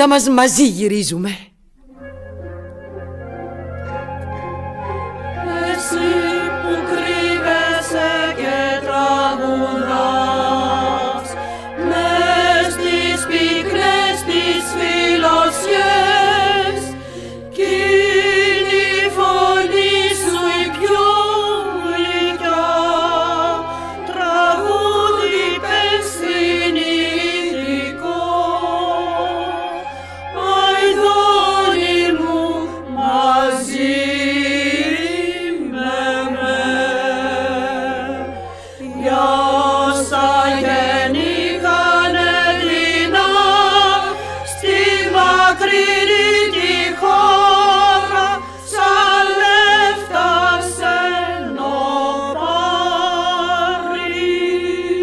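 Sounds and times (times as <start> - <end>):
choir singing with vibrato: 3.8 - 55.0.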